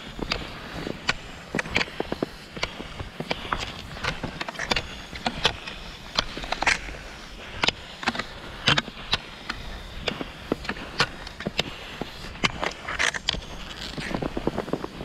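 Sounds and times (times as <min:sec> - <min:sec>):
ski pole tips clicking: 0:00.0 - 0:15.0
skis scraping over snow: 0:00.0 - 0:15.0.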